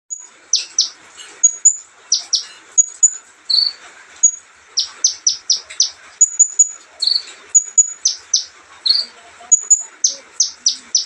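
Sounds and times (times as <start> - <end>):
sunbird chirping: 0.1 - 11.0.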